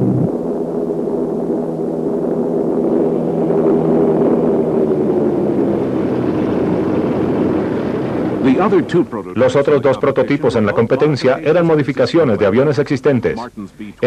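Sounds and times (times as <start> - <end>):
propeller aircraft droning past: 0.0 - 11.3.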